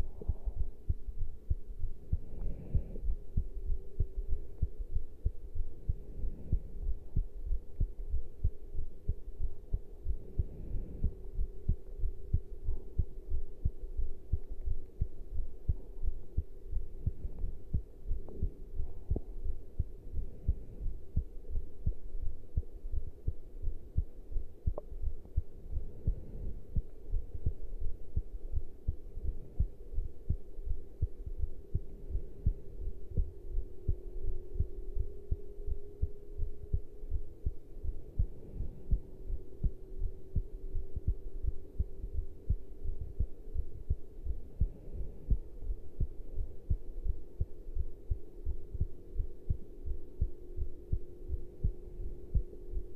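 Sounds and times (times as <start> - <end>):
faint steady hum: 0.0 - 52.9
heartbeat: 0.0 - 52.9.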